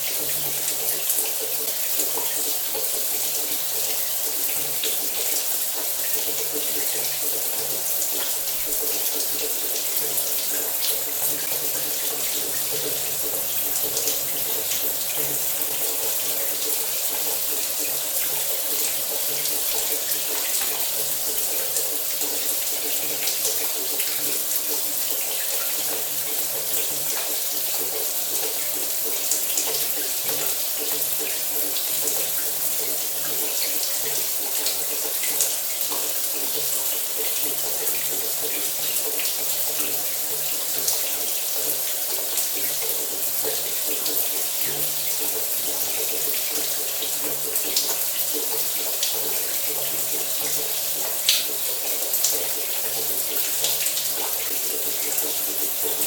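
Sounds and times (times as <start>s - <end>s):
shower water running: 0.0s - 56.0s.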